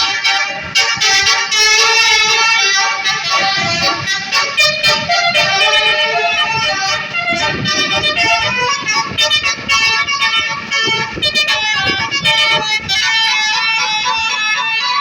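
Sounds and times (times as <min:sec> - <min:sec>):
musical bus horn melody: 0:00.0 - 0:15.0
vehicle rumble: 0:00.0 - 0:15.0.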